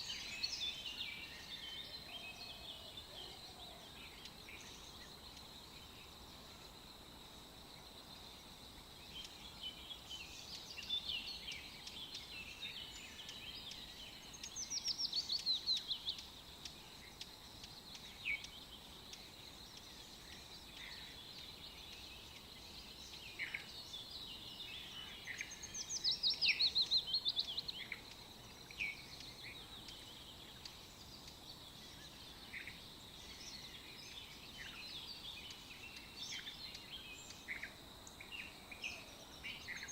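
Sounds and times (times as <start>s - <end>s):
faint steady hiss: 0.0s - 39.9s
songbirds chirping: 0.0s - 39.9s.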